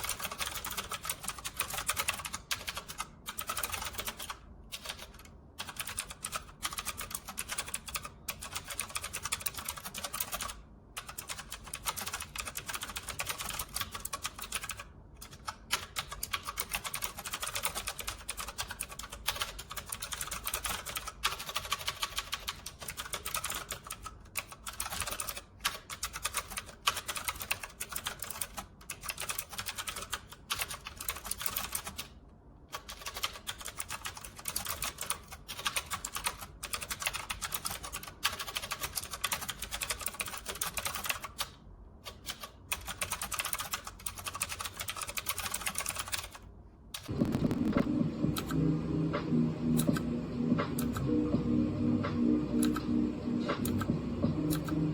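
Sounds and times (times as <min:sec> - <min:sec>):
mechanical keyboard typing: 0:00.0 - 0:46.4, 0:47.0 - 0:54.9.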